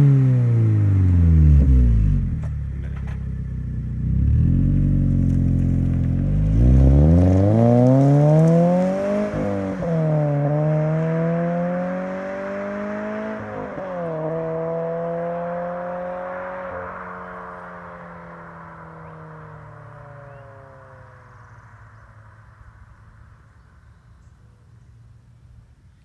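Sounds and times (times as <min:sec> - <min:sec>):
car engine accelerating: 0:00.0 - 0:25.1.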